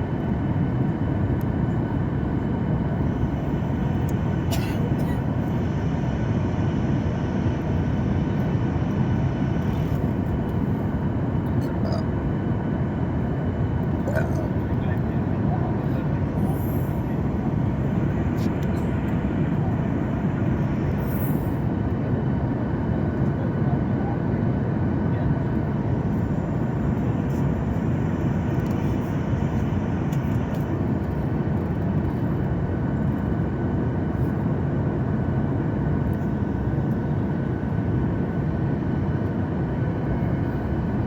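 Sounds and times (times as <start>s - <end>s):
airliner cabin engine roar: 0.0s - 41.0s.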